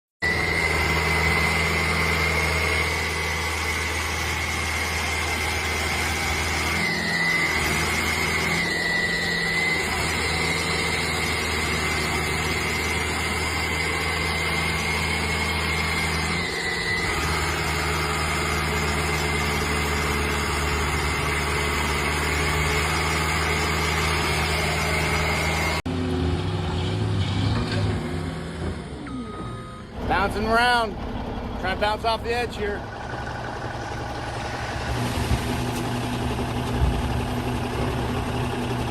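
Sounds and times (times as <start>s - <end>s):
tractor diesel engine running: 0.2s - 38.9s.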